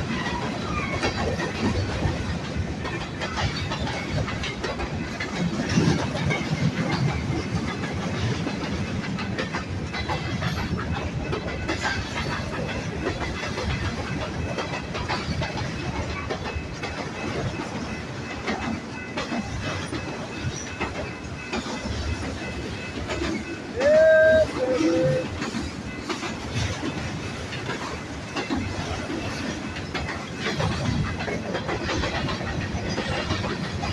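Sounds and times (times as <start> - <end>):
wheels clattering over rail joints: 0.0 - 23.7, 25.3 - 33.9
freight train rolling past: 0.0 - 33.9.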